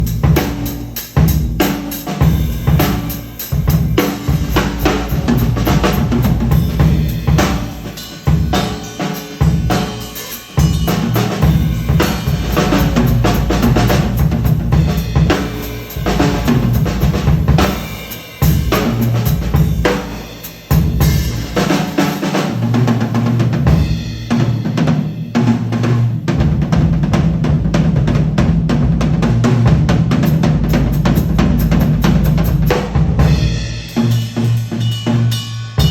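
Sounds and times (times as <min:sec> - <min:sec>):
drum kit grooves and fills: 0:00.0 - 0:35.9.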